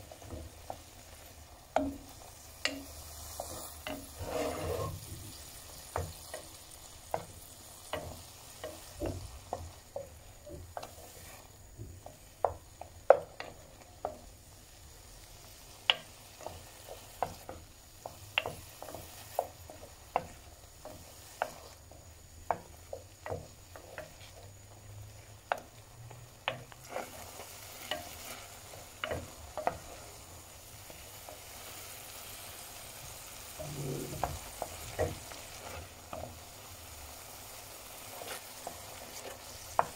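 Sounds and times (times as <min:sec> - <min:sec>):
mushrooms sizzling in a pan: 0:00.0 - 0:39.9
wooden spoon stirring: 0:00.0 - 0:39.9.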